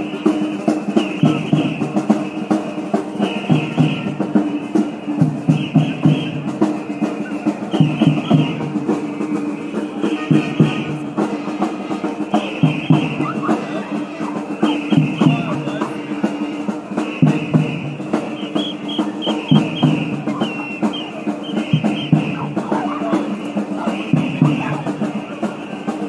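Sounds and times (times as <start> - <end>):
rhythmic drumming and percussion: 0.0 - 26.0.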